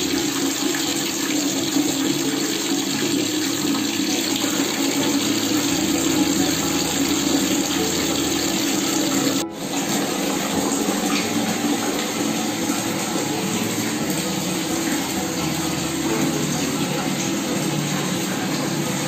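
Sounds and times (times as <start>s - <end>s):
water pouring onto tiled floor: 0.0s - 19.0s.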